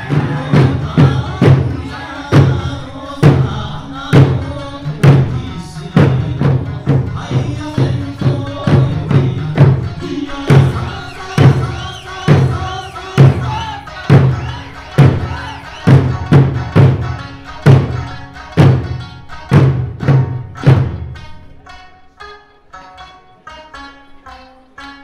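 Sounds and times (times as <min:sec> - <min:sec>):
barrel drums beating: 0:00.0 - 0:21.4
folk music with singing: 0:00.0 - 0:25.0
plucked lute: 0:00.0 - 0:25.0.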